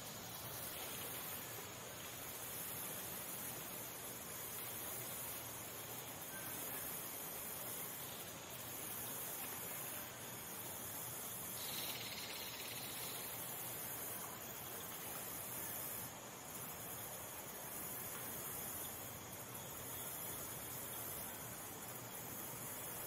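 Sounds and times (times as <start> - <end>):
buzzy insect trill: 0.0 - 23.0
high-pitched insect chorus: 0.0 - 23.0.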